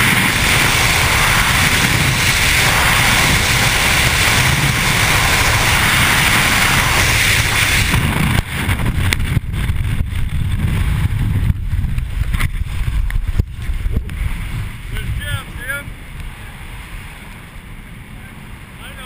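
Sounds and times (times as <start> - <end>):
wind roaring over microphone: 0.0 - 19.0.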